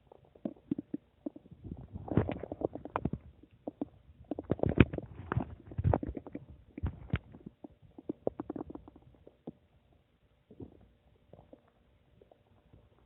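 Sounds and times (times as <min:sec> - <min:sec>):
stomach gurgling: 0:00.0 - 0:13.0.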